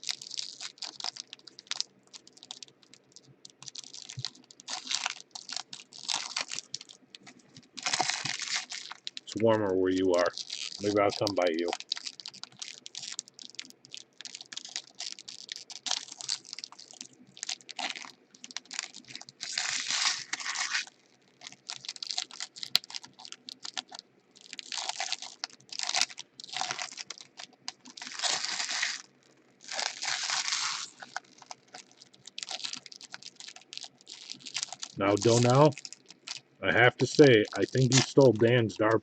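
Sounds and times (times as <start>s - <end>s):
wrapper crinkling and tearing: 0.0s - 39.0s.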